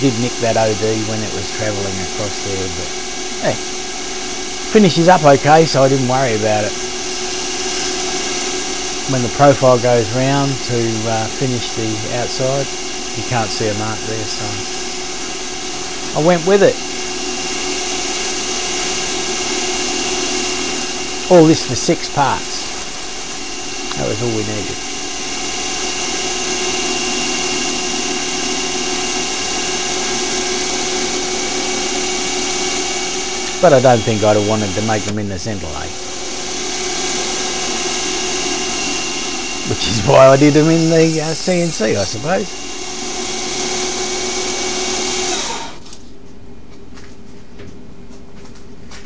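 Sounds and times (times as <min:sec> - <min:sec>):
lathe whining and hissing: 0:00.0 - 0:46.0.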